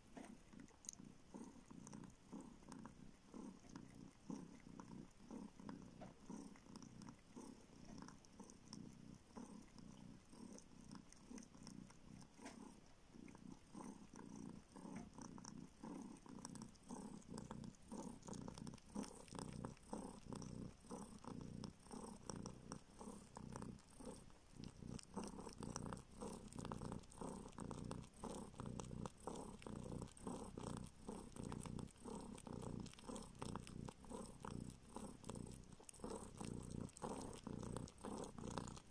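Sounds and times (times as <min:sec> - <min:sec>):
kitten purring: 0:00.0 - 0:38.9
kitten sucking clicks: 0:00.1 - 0:38.9.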